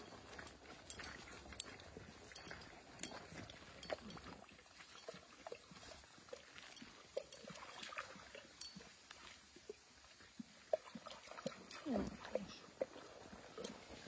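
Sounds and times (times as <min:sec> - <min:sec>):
dogs splashing in a puddle: 0:00.0 - 0:14.0.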